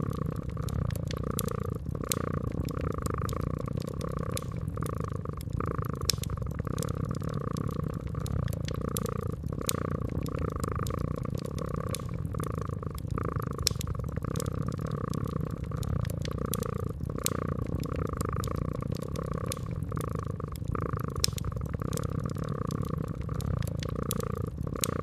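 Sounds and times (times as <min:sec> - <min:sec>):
cat purring: 0:00.0 - 0:25.0
wood fire crackling: 0:00.0 - 0:25.0.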